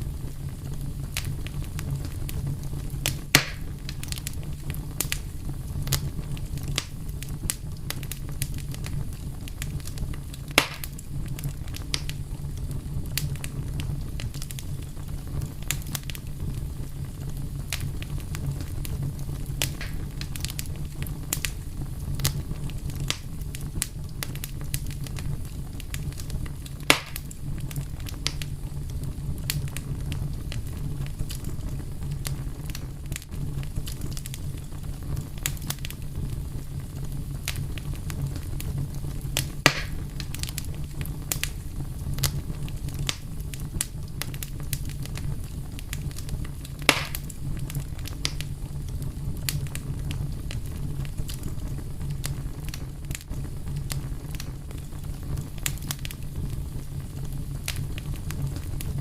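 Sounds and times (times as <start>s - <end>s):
fire crackling: 0.0s - 59.0s
fire pops: 0.0s - 59.0s.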